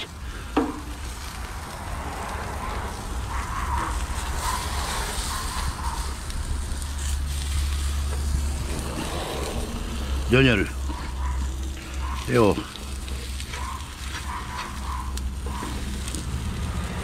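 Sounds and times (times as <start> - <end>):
constant low rumble: 0.0 - 17.0
food sizzling on a griddle: 0.1 - 17.0.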